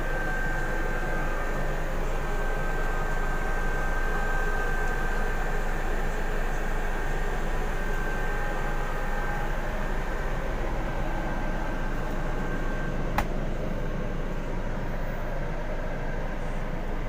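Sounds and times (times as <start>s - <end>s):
bus engine humming: 0.0s - 17.0s
faint steady whine: 0.0s - 17.0s.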